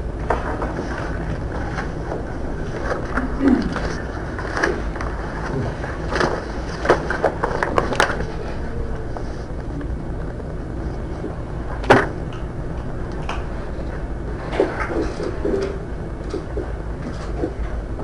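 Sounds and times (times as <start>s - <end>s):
low hum and hiss: 0.0s - 18.0s.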